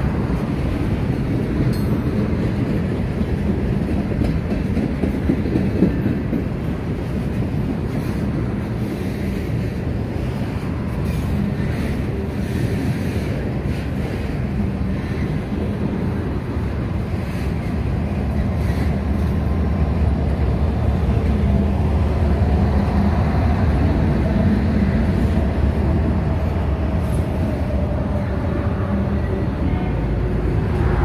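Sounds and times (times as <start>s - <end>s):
diesel locomotive engine: 0.0s - 31.0s
freight train rumbling: 0.0s - 31.0s.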